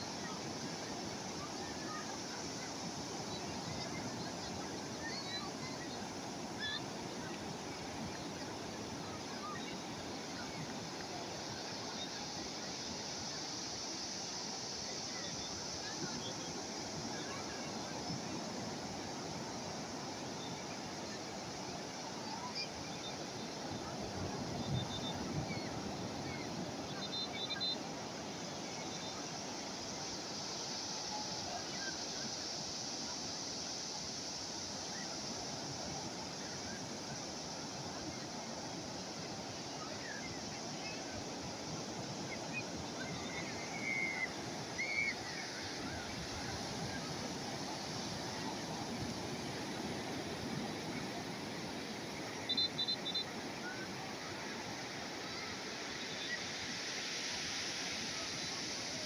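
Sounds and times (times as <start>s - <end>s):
calm sea waves washing: 0.0s - 59.0s.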